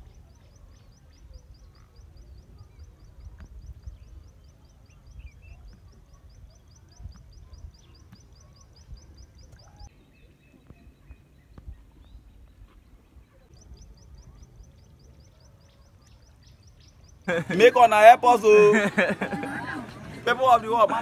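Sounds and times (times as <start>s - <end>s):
bird calls: 0.0s - 21.0s.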